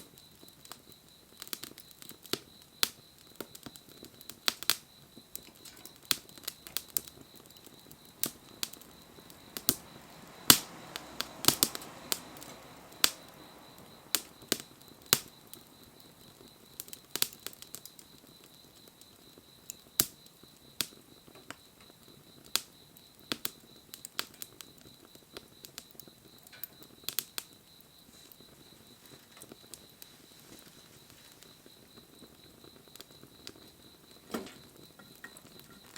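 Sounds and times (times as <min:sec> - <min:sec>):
bonfire crackling and popping: 0:00.0 - 0:35.9.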